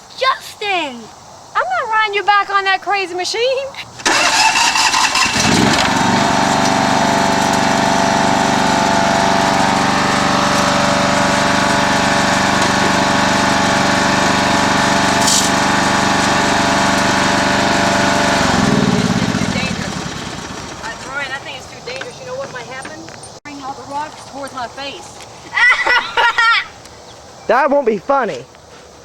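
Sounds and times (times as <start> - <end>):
riding lawnmower engine running: 3.8 - 27.5.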